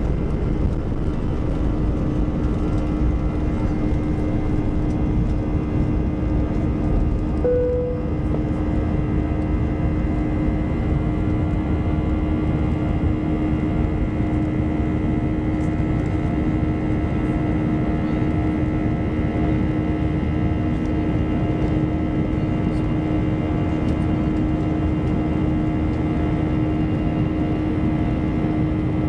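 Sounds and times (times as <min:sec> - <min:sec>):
jet engines and airflow rushing: 0:00.0 - 0:29.0.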